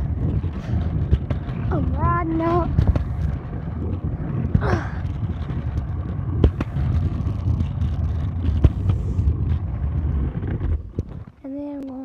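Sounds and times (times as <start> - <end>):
wind on microphone: 0.0 - 11.9
scooter rumbling over pavement: 0.0 - 12.0.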